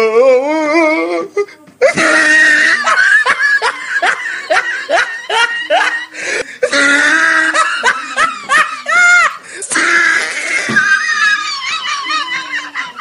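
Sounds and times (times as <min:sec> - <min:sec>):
person laughing hard: 0:01.8 - 0:13.0.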